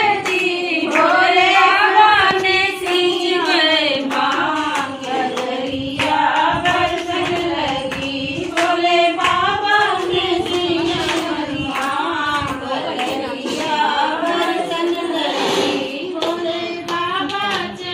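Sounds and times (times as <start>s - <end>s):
hand claps: 0.0s - 17.9s
women singing folk song: 0.0s - 17.9s.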